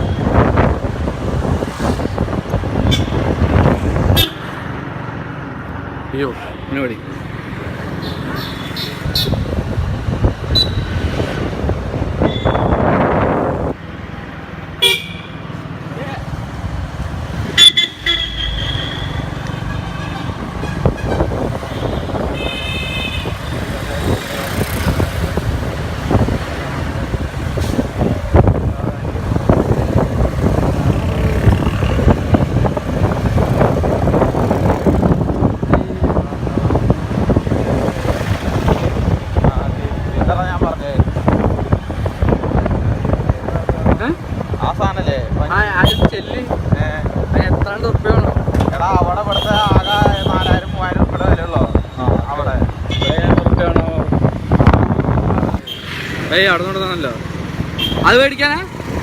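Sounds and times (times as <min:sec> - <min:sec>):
wind rushing over microphone: 0:00.0 - 0:06.3, 0:08.9 - 0:14.7, 0:19.1 - 0:59.0
motorcycle engine and road noise: 0:00.0 - 0:59.0.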